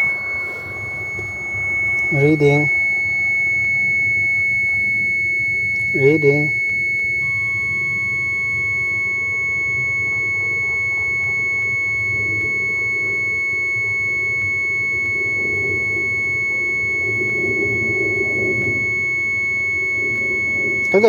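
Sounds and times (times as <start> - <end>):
faint second tone: 0.0 - 21.0
high-pitched electronic tone: 0.0 - 21.0
low hum: 0.0 - 21.0.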